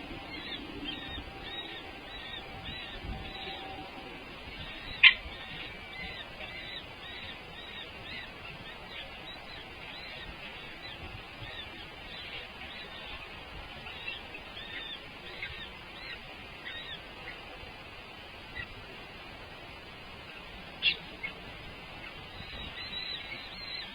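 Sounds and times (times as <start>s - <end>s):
birds chirping: 0.0s - 17.5s, 20.2s - 23.9s.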